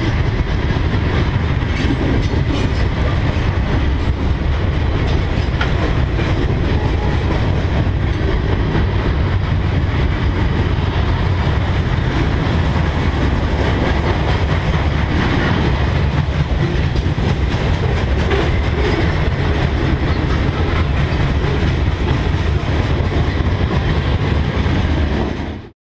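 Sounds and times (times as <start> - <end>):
freight train rumbling past: 0.0 - 25.7
train cars rattling: 0.0 - 25.7.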